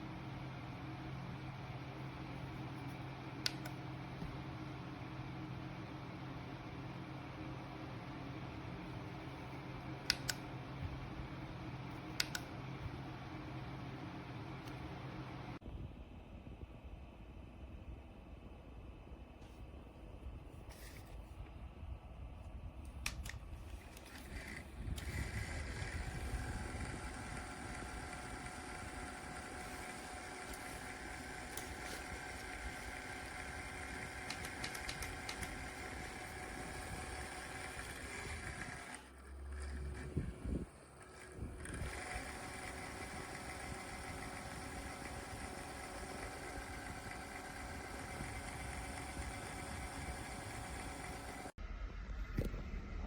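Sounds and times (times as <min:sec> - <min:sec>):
desk fan whirring: 0:00.0 - 0:53.0.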